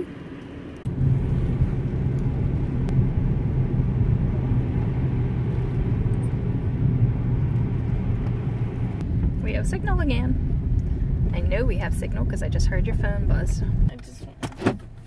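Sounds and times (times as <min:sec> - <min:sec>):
low hum: 0:00.0 - 0:13.9
car road and engine rumble: 0:00.0 - 0:15.0.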